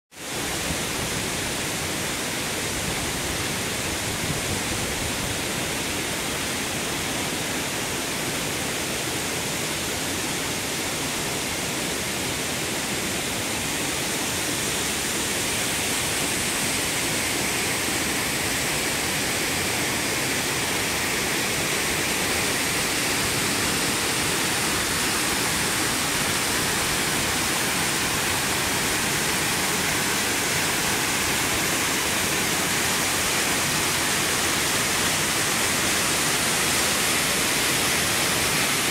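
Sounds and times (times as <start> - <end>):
stream flowing: 0.2 - 38.9
waterfall rushing: 0.2 - 38.9.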